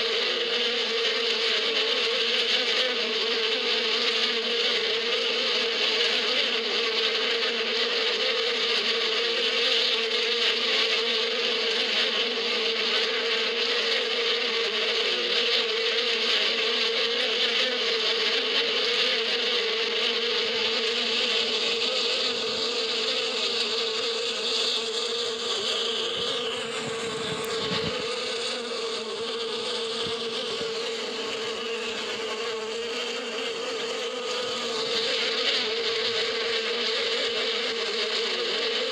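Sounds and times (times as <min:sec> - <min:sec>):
honeybees buzzing: 0:00.0 - 0:38.9.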